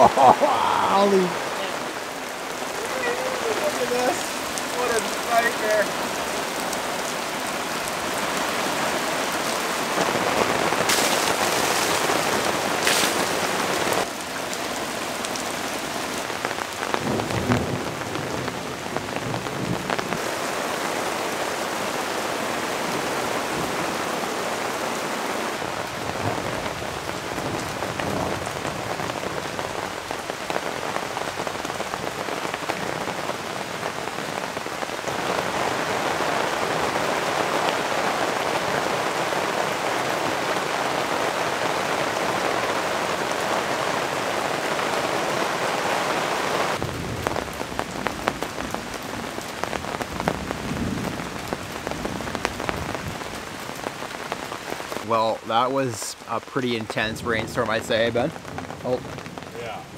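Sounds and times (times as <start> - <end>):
heavy rain pelting the ground: 0.0 - 59.9.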